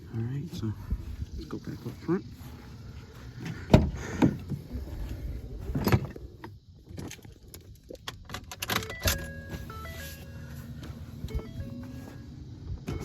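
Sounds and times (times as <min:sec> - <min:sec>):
steady multi-tone whine: 0:00.0 - 0:13.0.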